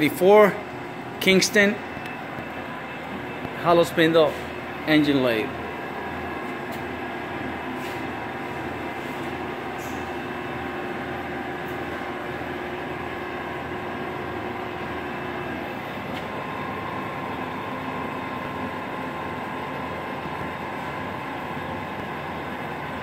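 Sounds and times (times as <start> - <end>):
machinery humming: 0.0 - 23.0.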